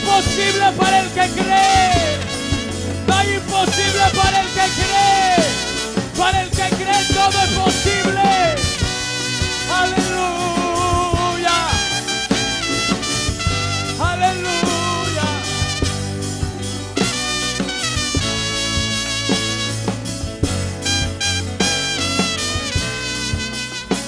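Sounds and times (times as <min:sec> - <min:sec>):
live band with brass melody: 0:00.0 - 0:24.0.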